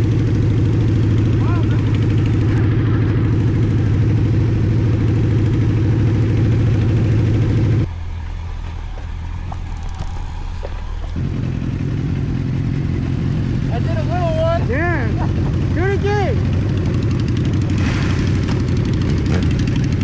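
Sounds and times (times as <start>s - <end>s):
motorcycle engines idling: 0.0s - 20.0s.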